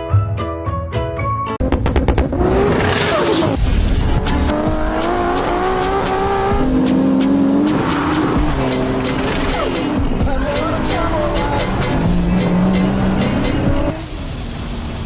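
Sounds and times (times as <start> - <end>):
vehicle engine revving: 1.6 - 15.0.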